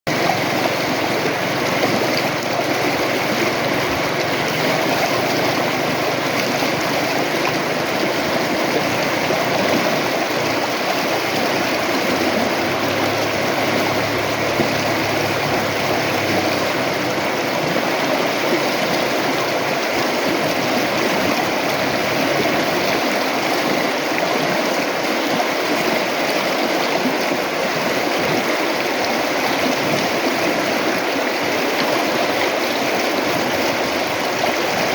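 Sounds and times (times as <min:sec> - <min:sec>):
river water flowing: 0:00.1 - 0:34.9.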